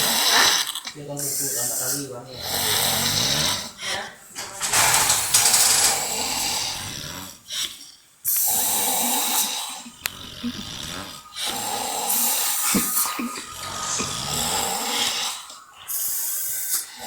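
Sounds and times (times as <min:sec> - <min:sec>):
people snoring: 0:00.0 - 0:17.0.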